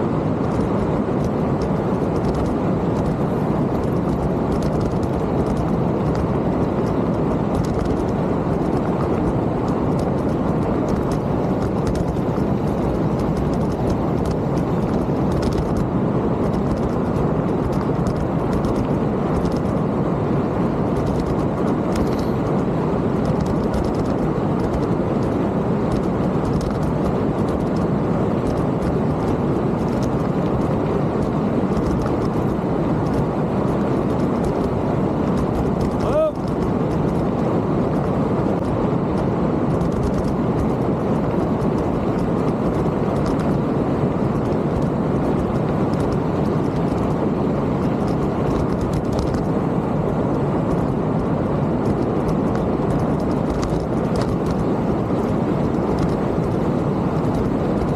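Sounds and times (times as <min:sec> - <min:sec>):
wind over microphone: 0:00.0 - 0:57.9
tyres rolling on trail: 0:00.1 - 0:57.9
faint ticks and rattles: 0:00.4 - 0:19.8, 0:20.8 - 0:22.6, 0:23.2 - 0:43.7, 0:47.8 - 0:49.5, 0:50.1 - 0:57.9.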